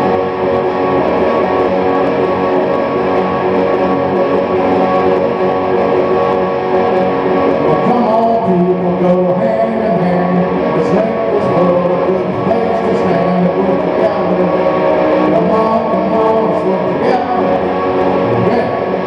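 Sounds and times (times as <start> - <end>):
guitar playing: 0.0 - 19.0.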